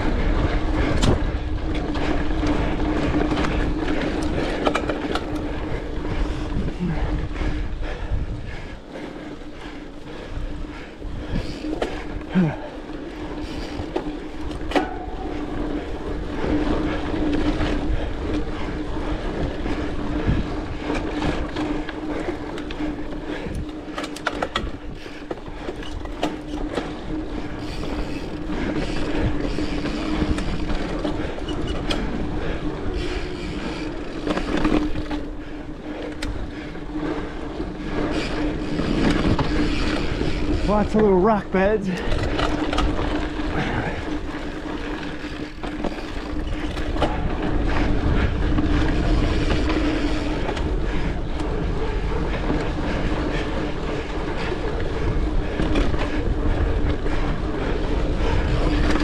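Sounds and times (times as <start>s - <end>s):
bike rattling over bumps: 0.0s - 59.0s
bike tyre rumble on dirt: 0.0s - 59.0s
steady low hum: 0.0s - 59.0s.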